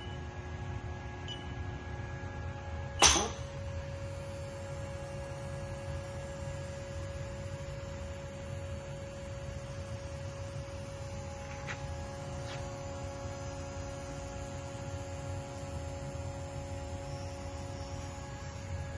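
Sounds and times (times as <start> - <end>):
electrical hum: 0.0 - 18.9.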